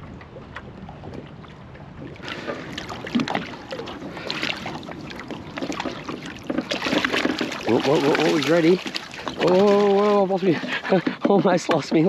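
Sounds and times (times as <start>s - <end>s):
wind rumbling on microphone: 0.0s - 11.7s.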